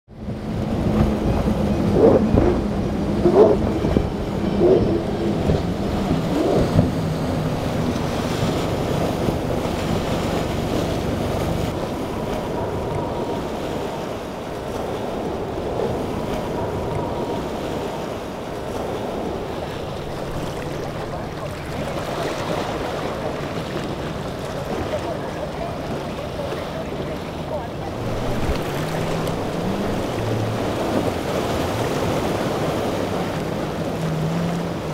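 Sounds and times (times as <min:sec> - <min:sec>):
wind: 0:00.0 - 0:34.9
boat engine hum: 0:00.1 - 0:34.9
surf: 0:00.1 - 0:34.9
loud water splashes: 0:00.7 - 0:34.9.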